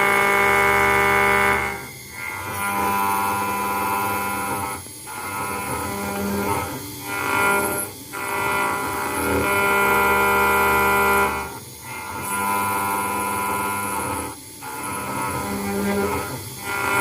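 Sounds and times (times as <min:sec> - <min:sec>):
router spindle whining: 0:00.0 - 0:17.0.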